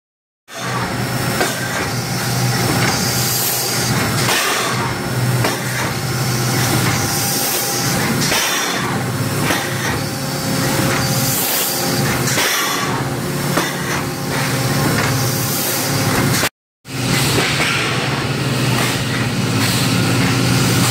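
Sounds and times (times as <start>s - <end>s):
factory machinery din: 0.5s - 20.9s.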